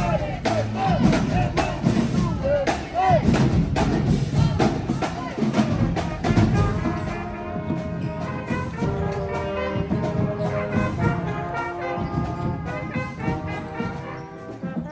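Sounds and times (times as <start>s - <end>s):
brass instruments playing chords: 0.0s - 14.9s
percussion beat: 0.0s - 14.9s.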